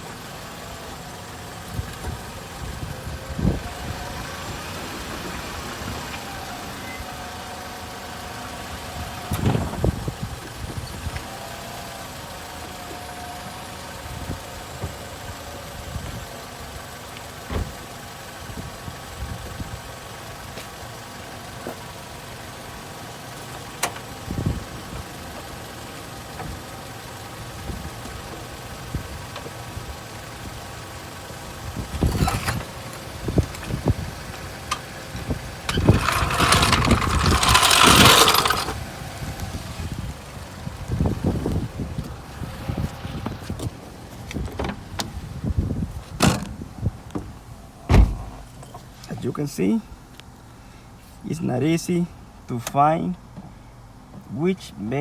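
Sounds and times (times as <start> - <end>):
car engine and drivetrain drone: 0.0 - 51.2.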